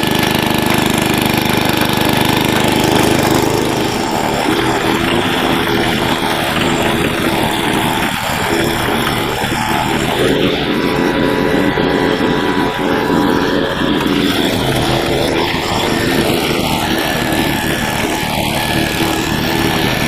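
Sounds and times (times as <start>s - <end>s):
tiller engine running: 0.0s - 20.0s.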